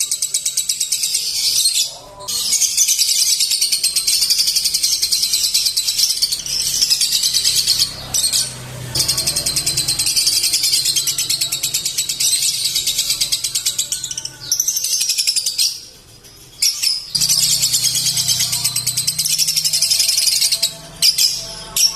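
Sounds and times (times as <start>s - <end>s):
lovebird chattering trills: 0.0s - 21.9s.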